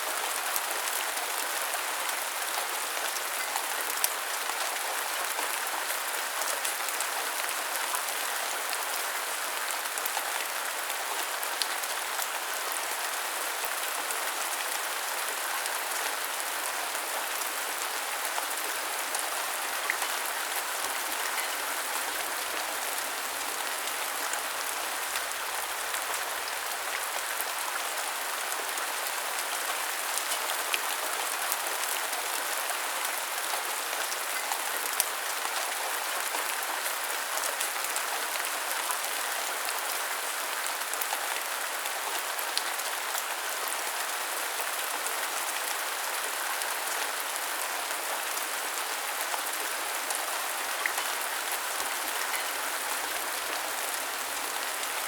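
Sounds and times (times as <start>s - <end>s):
rain pattering on hard surfaces: 0.1s - 44.4s, 48.3s - 55.0s.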